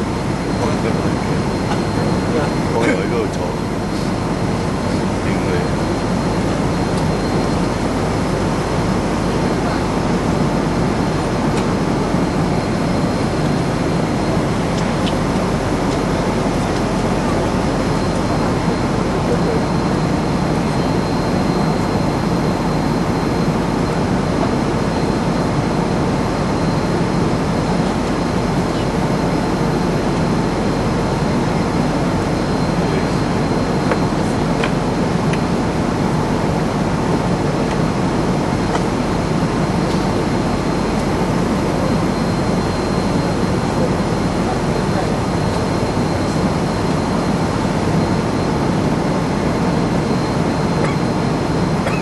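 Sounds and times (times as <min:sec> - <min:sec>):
jet airliner cabin noise: 0:00.0 - 0:52.0.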